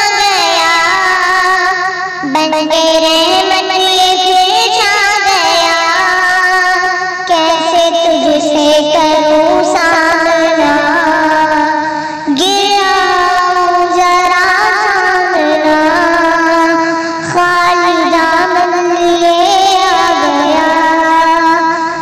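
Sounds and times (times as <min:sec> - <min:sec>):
high voice singing: 0:00.0 - 0:22.0.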